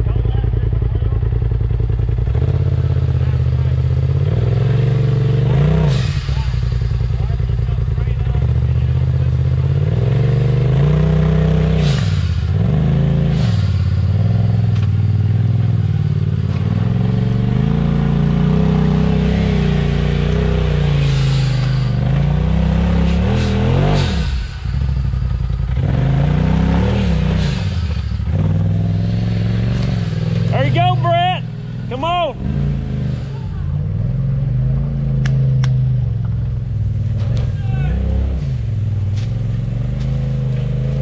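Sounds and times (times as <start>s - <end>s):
utility vehicle engine revving: 0.0s - 41.0s.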